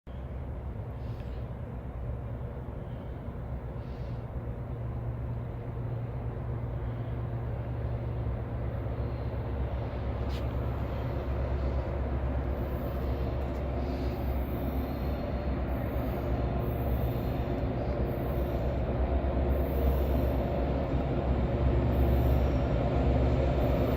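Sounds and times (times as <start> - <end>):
locomotive engine drone: 0.1 - 23.9.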